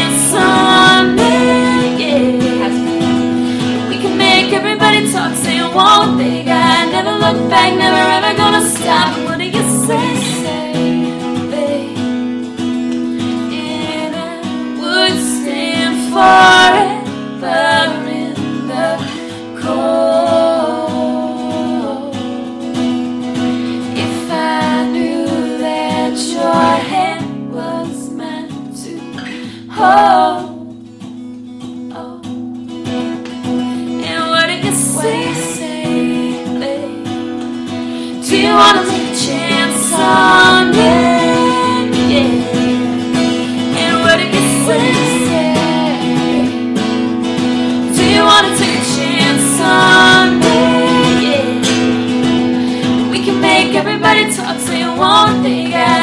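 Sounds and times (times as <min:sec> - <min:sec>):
woman singing: 0:00.0 - 0:12.4, 0:13.2 - 0:22.7, 0:23.8 - 0:30.8, 0:31.9 - 0:32.5, 0:33.7 - 0:46.8, 0:47.8 - 0:56.0
acoustic guitar strumming: 0:00.0 - 0:56.0.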